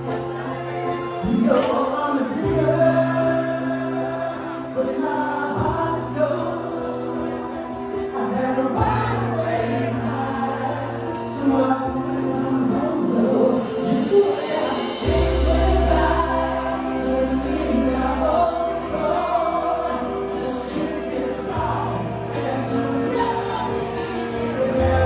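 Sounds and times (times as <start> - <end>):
live rock band playing ballad: 0.0 - 25.0
man singing: 0.0 - 25.0
steady bass line: 0.0 - 25.0.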